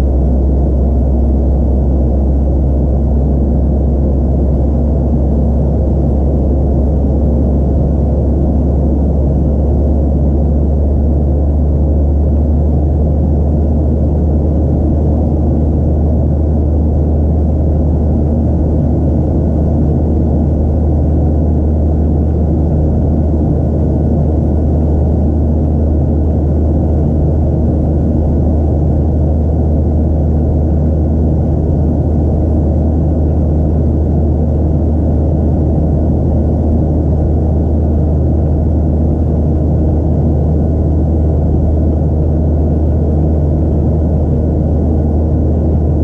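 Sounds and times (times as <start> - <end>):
airplane cabin engine rumble: 0.0 - 46.0
faint steady whine: 0.0 - 46.0.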